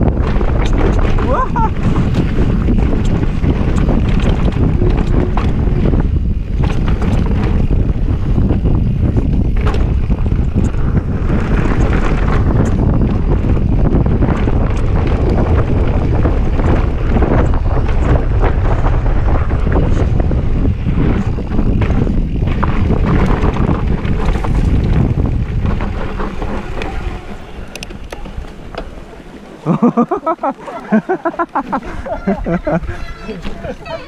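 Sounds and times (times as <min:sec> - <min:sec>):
bike clattering and knocking: 0:00.0 - 0:29.2
bike tyres rumbling on dirt: 0:00.0 - 0:34.0
wind buffeting microphone: 0:00.0 - 0:34.0.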